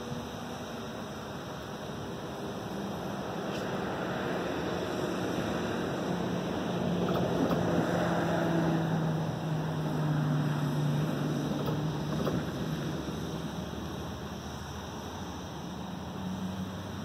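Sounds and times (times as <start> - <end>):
distant engine hum: 0.0 - 17.0
steady rushing noise: 0.0 - 17.0.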